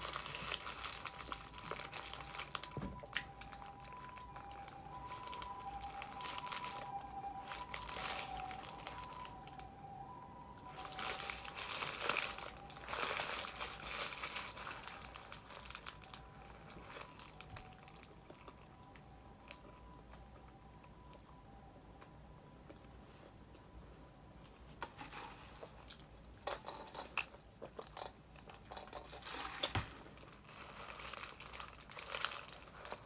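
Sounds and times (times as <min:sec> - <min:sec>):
food packaging crinkling: 0:00.0 - 0:19.8, 0:24.7 - 0:33.0.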